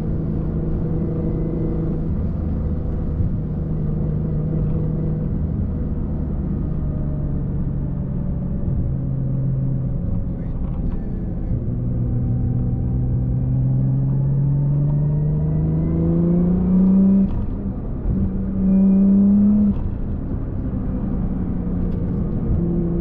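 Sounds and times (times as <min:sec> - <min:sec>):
car engine accelerating: 0:00.0 - 0:23.0
road rumble: 0:00.0 - 0:23.0.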